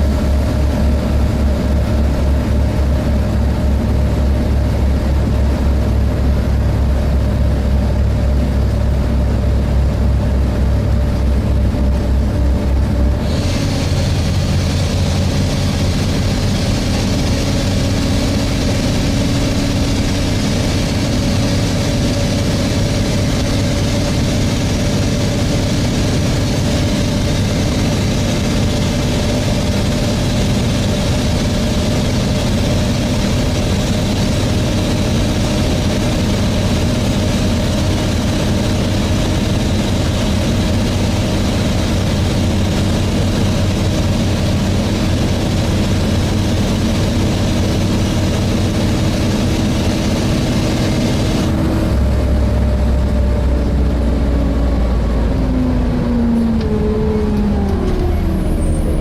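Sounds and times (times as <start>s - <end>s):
bus diesel engine running: 0.0s - 59.0s
engine cooling fan: 0.0s - 59.0s
steady whine: 0.0s - 59.0s.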